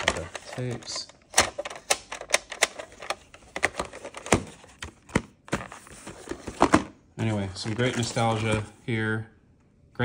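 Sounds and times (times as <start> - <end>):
hard plastic case clattering: 0.0 - 8.7.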